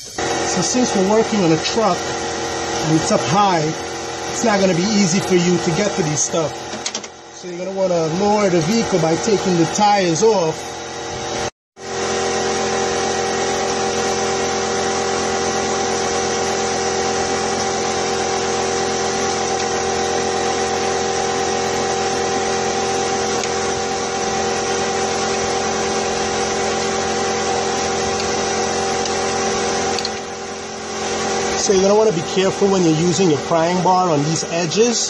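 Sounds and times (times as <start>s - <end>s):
electric motor hum: 0.0s - 35.0s.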